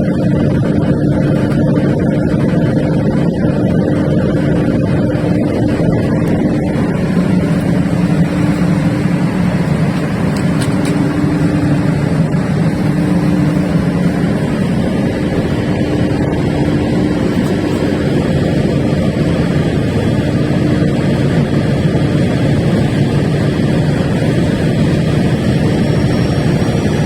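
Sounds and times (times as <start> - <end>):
diesel generator droning: 0.0 - 27.0.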